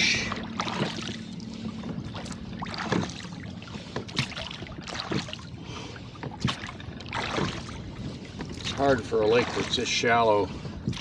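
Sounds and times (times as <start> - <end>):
water splashing against boat hull: 0.0 - 11.0.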